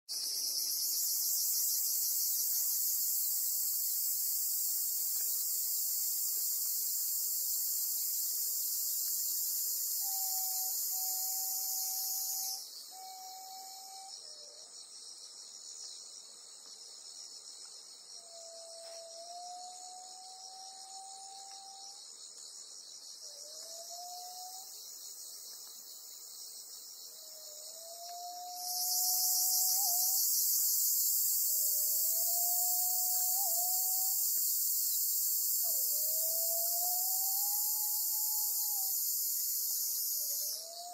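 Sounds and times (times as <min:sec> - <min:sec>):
insects singing drone: 0:00.1 - 0:40.9.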